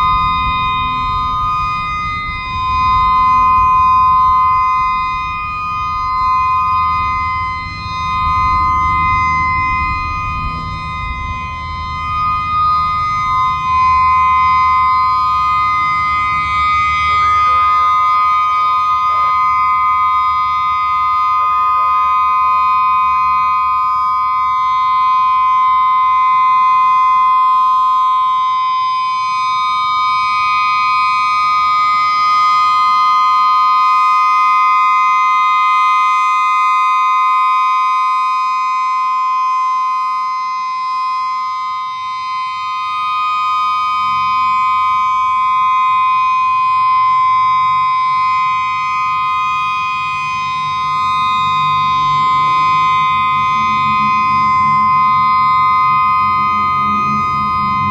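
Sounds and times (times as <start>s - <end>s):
outdoor warning siren steady tone: 0.0s - 57.9s.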